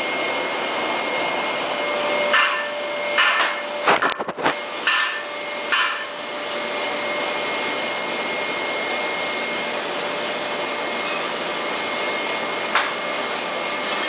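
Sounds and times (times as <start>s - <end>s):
foundry machinery hissing: 0.0s - 14.0s.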